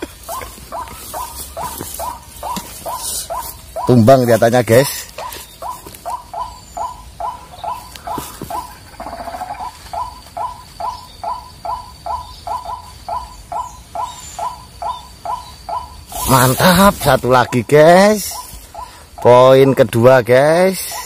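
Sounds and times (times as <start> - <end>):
bird croaking calls: 0.0 - 21.0.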